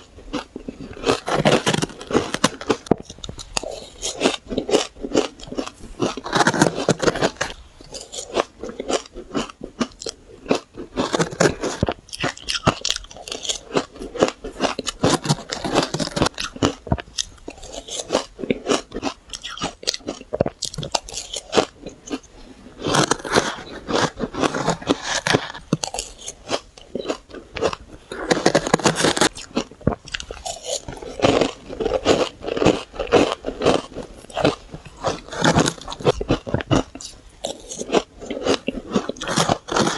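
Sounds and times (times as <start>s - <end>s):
chewing crunchy shaved ice: 0.0s - 39.9s.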